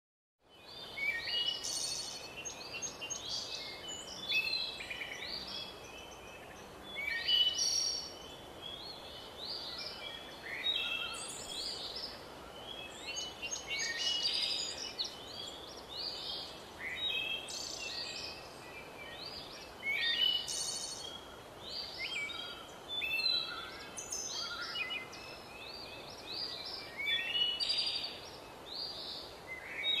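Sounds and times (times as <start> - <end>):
background hiss: 0.5 - 30.0
birds singing: 0.5 - 30.0.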